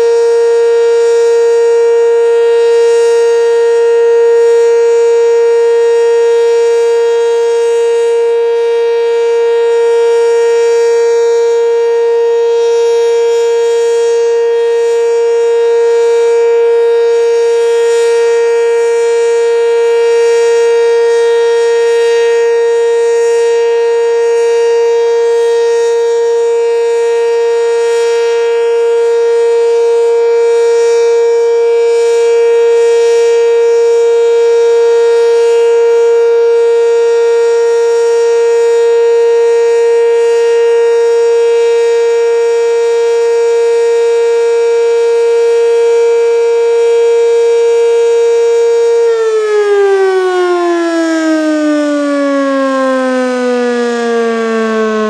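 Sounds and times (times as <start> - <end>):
siren steady tone: 0.0 - 55.0.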